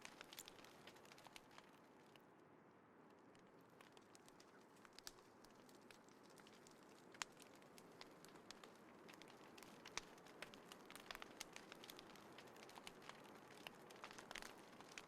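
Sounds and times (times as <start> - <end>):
wood fire crackling: 0.0 - 2.2, 3.2 - 15.0.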